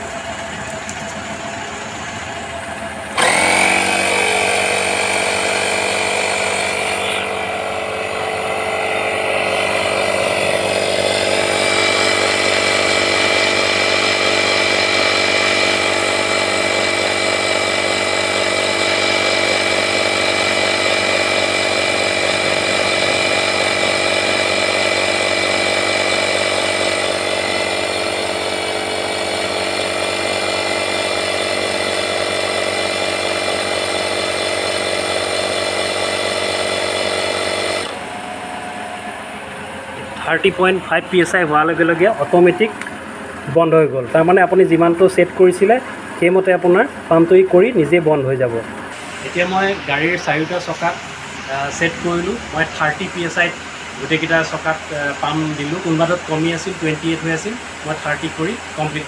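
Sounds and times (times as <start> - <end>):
electric air compressor running: 0.0 - 59.0.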